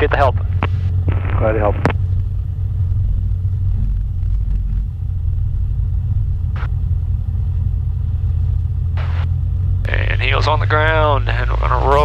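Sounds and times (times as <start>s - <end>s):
plane piston engine droning: 0.0s - 12.0s.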